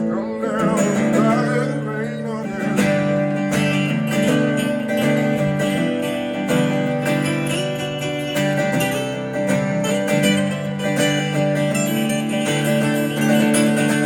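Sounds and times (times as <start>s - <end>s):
bluegrass band playing: 0.0s - 14.0s.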